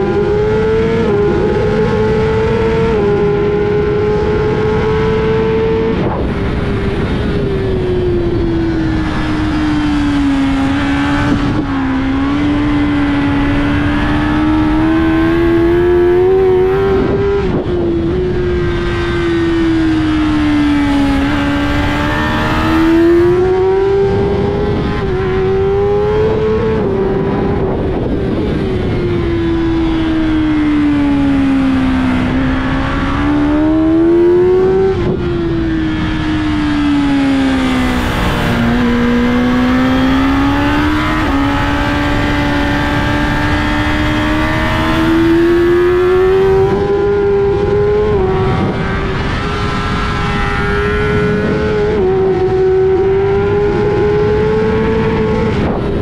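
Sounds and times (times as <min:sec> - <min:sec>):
motorcycle engine racing: 0:00.0 - 0:56.0.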